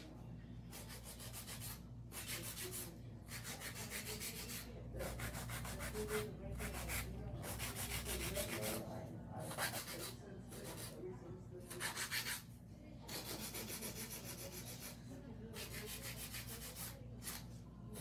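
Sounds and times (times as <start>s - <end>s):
nail file rasping on nails: 0.7s - 8.8s, 9.4s - 11.0s, 11.7s - 12.5s, 13.1s - 15.0s, 15.6s - 18.0s.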